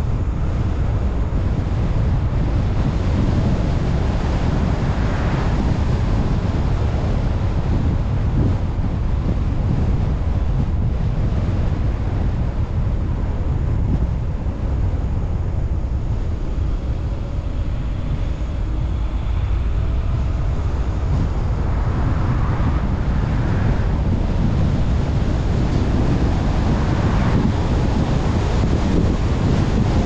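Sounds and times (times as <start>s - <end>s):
car road noise rumble: 0.0s - 30.0s
wind buffeting microphone: 0.0s - 30.0s.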